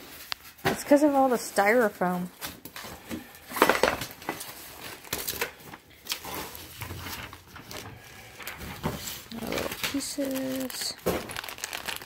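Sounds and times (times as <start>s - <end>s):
cardboard and styrofoam rustling: 0.0s - 12.0s.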